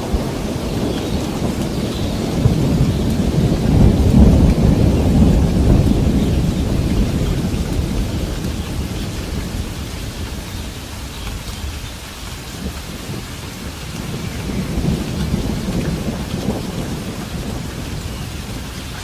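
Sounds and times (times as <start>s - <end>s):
rumble of thunder: 0.0s - 19.0s
steady rainfall: 0.0s - 19.0s.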